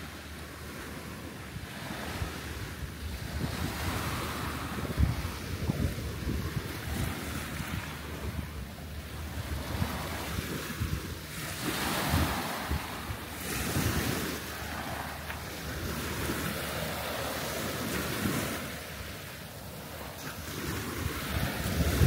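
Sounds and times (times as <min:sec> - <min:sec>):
small waves washing up beach: 0:00.0 - 0:22.0
wind rumble on microphone: 0:00.0 - 0:22.0.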